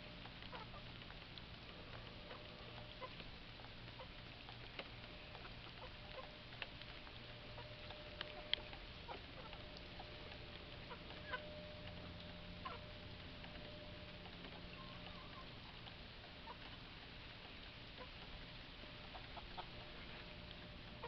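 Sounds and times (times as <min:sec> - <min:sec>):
faint steady background noise: 0:00.0 - 0:21.0
chickens clucking softly: 0:00.5 - 0:01.0, 0:01.7 - 0:21.0.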